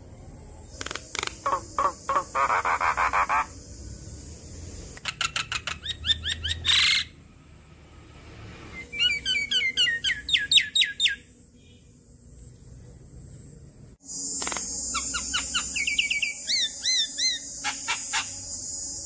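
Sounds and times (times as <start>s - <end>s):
bird rising chirps: 0.0s - 7.2s, 8.6s - 11.8s, 14.1s - 19.0s.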